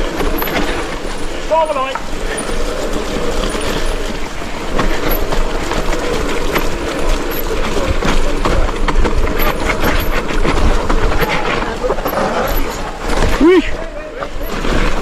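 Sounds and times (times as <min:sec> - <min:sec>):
bike rattling over rough ground: 0:00.0 - 0:15.0.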